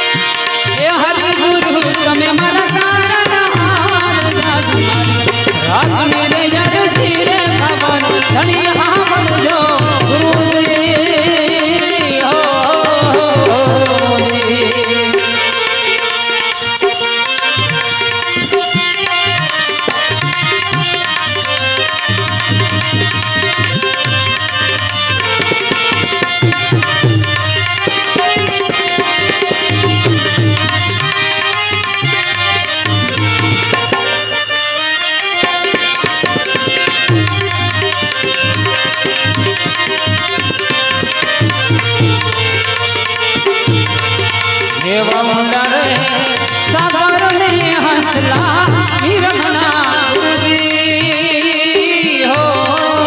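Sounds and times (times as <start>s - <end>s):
tabla rhythm: 0.0s - 53.0s.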